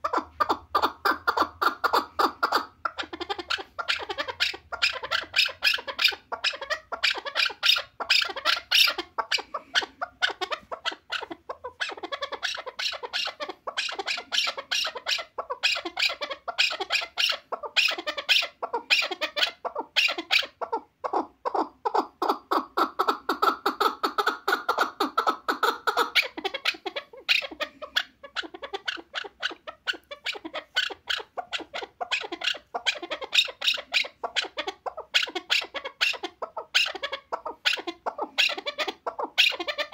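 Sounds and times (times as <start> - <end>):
partridge harsh clucking calls: 0.0 - 39.9.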